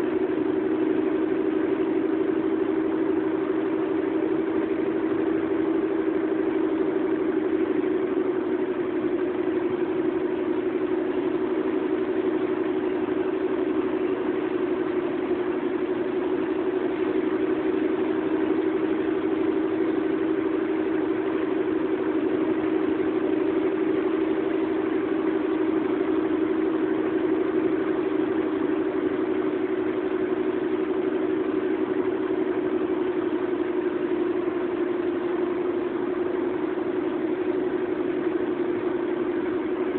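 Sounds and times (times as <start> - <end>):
vehicle cabin engine and road noise: 0.0 - 39.9.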